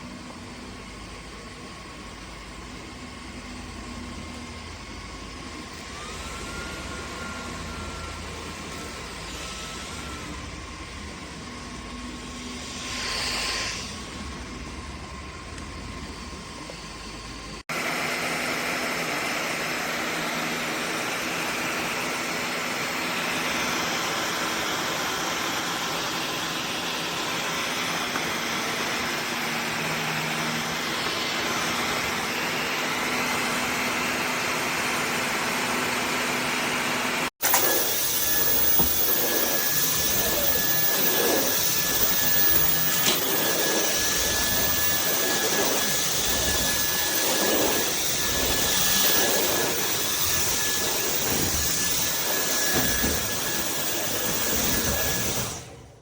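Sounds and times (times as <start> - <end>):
cordless vacuum whining: 0.0 - 56.0.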